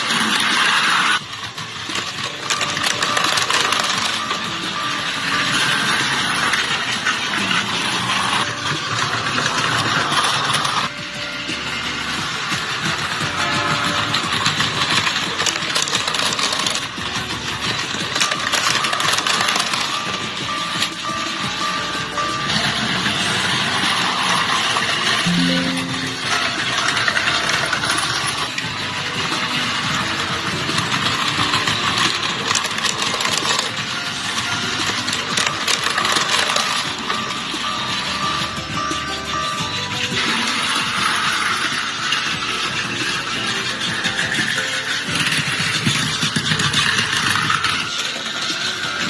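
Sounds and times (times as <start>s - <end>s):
background music: 0.0s - 49.0s
toy vehicles rattling and clicking: 0.0s - 49.0s.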